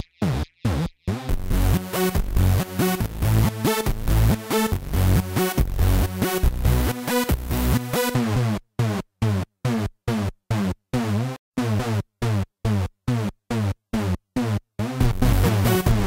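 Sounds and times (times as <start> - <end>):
electronic dance track: 0.0 - 11.8, 13.2 - 16.0.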